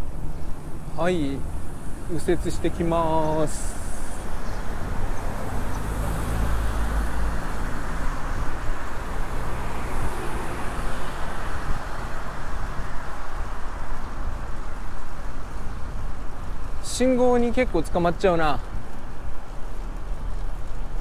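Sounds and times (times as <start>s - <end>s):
car engines and road noise: 0.0s - 21.0s.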